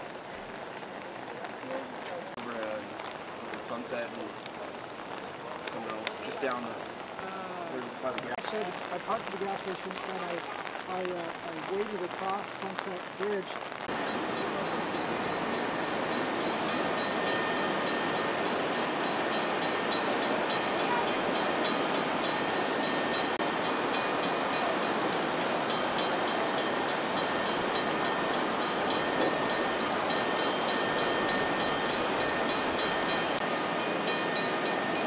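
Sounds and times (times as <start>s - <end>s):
floodwater roaring: 0.0s - 35.0s.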